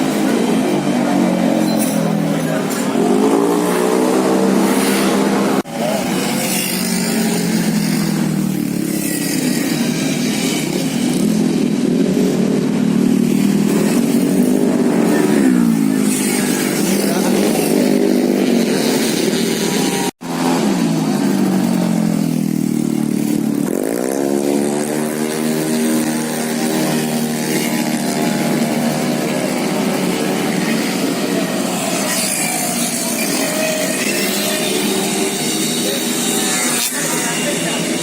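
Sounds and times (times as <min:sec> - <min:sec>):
scooter engine revving: 0:00.0 - 0:38.0.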